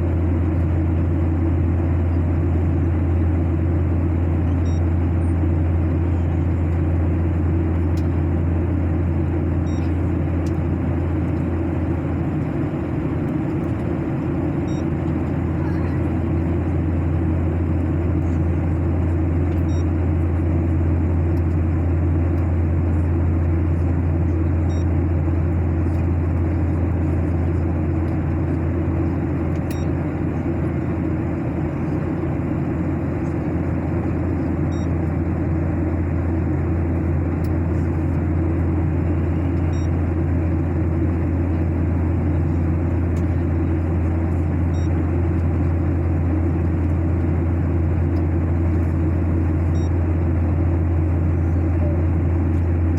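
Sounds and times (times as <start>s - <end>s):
airliner cabin drone: 0.0s - 52.9s.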